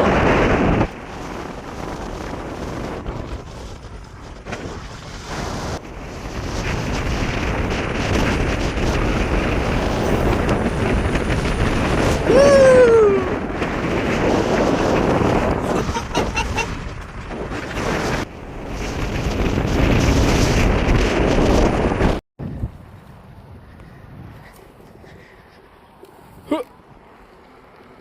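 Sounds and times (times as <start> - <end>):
wind buffeting the microphone: 0.0 - 27.3.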